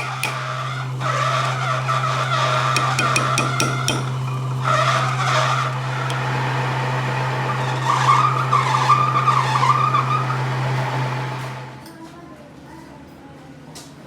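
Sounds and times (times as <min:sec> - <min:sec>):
metal cutting squeal: 0:00.0 - 0:11.8
machine tool humming: 0:00.0 - 0:11.9.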